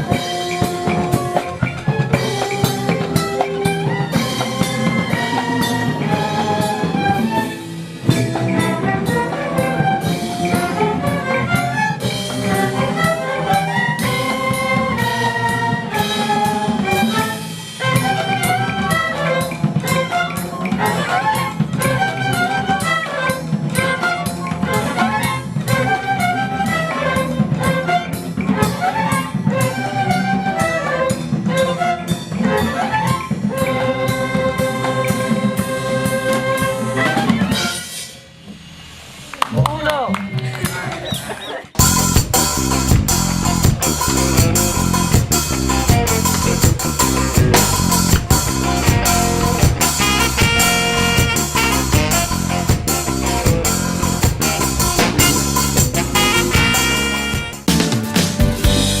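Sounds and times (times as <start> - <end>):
brass instrumental music: 0.0 - 38.4, 41.8 - 59.0
drum kit beat: 0.0 - 40.1, 40.7 - 59.0.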